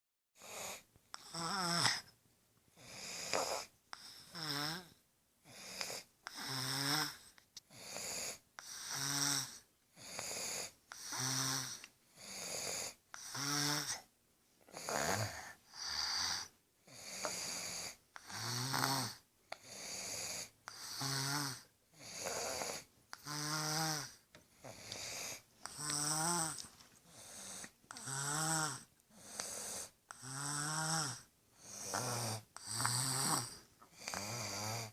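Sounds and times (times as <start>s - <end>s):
baby snoring: 0.4s - 2.1s, 2.8s - 14.1s, 14.7s - 34.9s.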